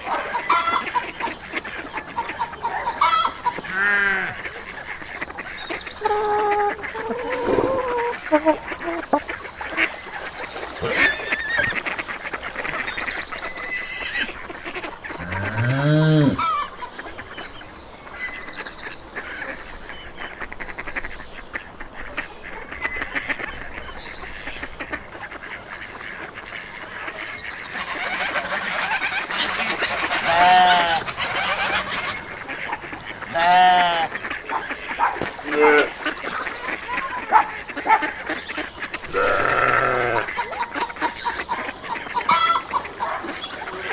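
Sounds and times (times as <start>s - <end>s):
chatter of fowl: 0.0s - 43.9s
farmyard animals calling: 0.0s - 43.9s.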